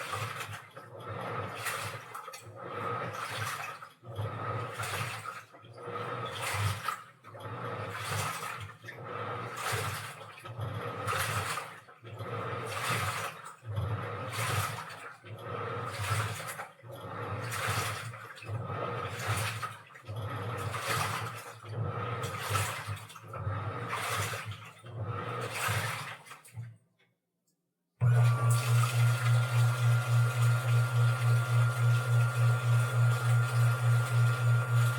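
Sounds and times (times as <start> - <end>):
washing machine motor hum: 0.0 - 26.4, 28.0 - 34.9
water sloshing in laundry: 0.0 - 27.0, 28.0 - 34.9.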